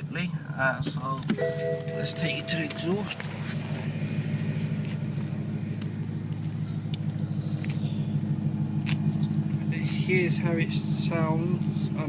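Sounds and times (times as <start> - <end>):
car engine idling: 0.4 - 12.0.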